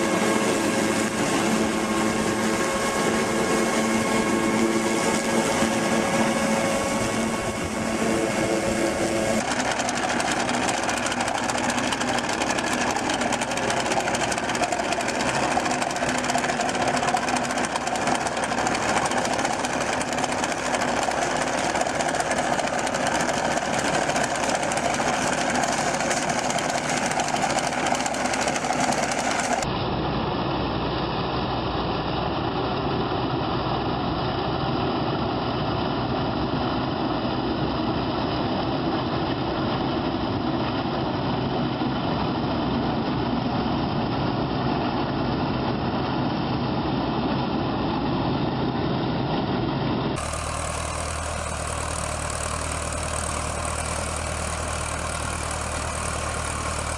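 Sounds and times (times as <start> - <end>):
heavy machinery engines running: 0.0 - 56.9.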